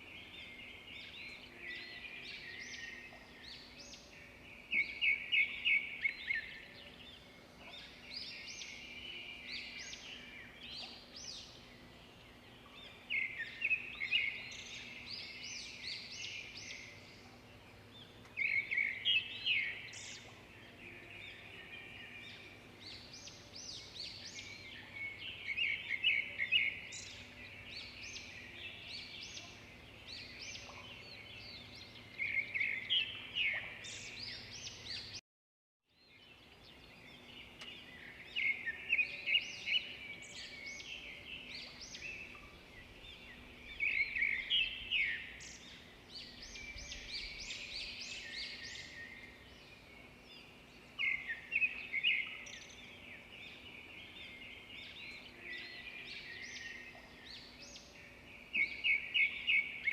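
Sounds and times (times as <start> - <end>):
birds singing and chirping: 0.0 - 35.2, 35.9 - 59.9
faint background hiss: 0.0 - 35.2, 36.0 - 59.9.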